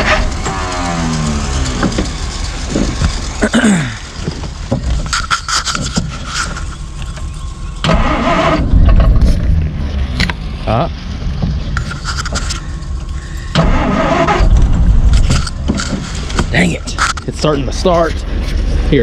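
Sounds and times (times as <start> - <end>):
car engine cranking: 0.0 - 19.0
engine clanks: 0.0 - 19.0.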